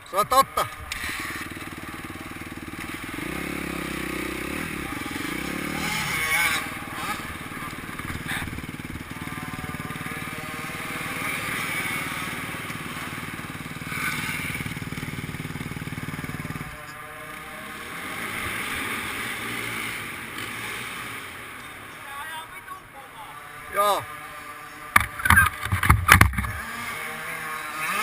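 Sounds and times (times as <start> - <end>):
motocross bike engine revving: 0.0 - 22.4, 23.1 - 28.0.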